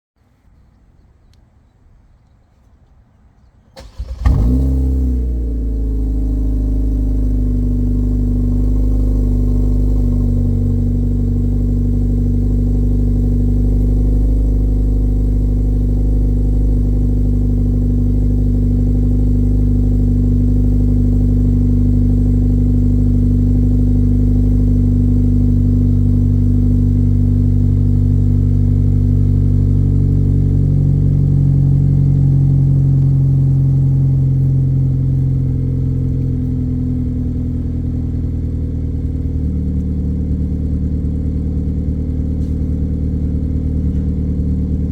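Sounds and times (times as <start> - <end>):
car engine idling with loud exhaust: 3.9 - 44.9.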